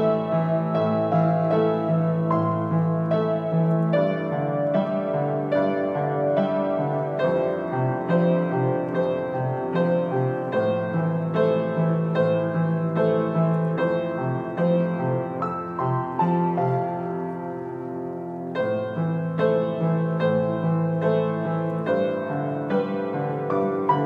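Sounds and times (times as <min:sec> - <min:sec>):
slow solo piano melody: 0:00.0 - 0:24.0.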